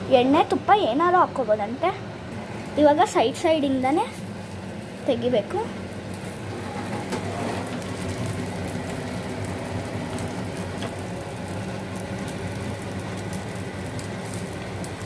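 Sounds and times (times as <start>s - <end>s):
steady low hum: 0.0s - 15.0s
pancakes sizzling in hot oil: 2.4s - 15.0s.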